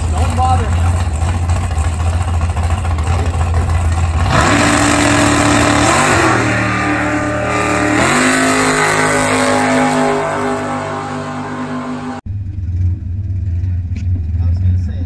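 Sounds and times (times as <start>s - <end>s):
drag car engine accelerating: 0.0s - 15.0s.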